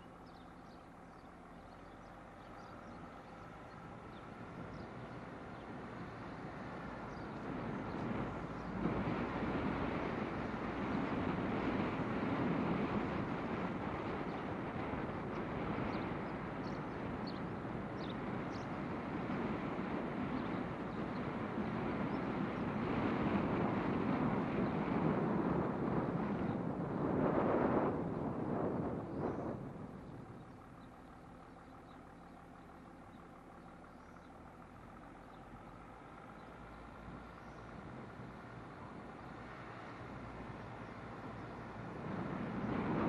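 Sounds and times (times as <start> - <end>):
vehicles passing by: 0.0 - 43.0.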